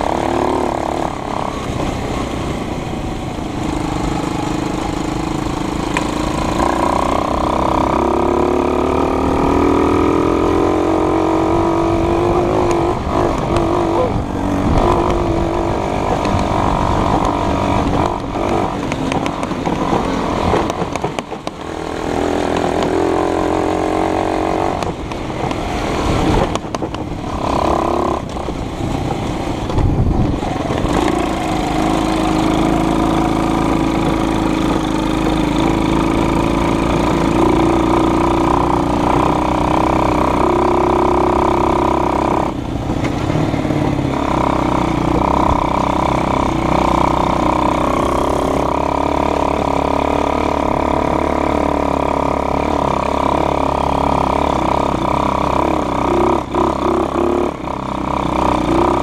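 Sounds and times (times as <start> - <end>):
vehicle engine accelerating: 0.0 - 59.0.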